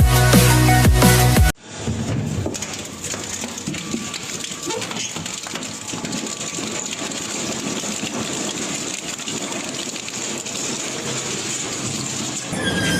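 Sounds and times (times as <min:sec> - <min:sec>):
heavy machine crushing material: 0:01.6 - 0:12.9.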